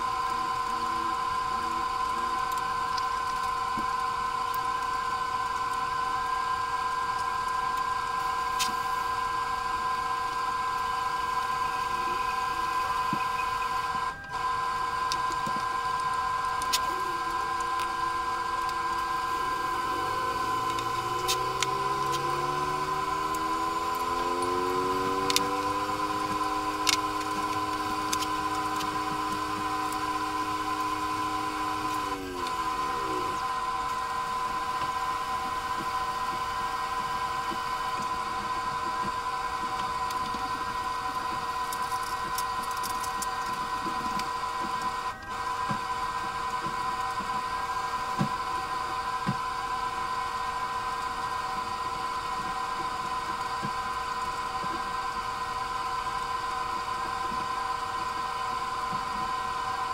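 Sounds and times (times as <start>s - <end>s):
appliance motor hum: 0.0s - 59.9s.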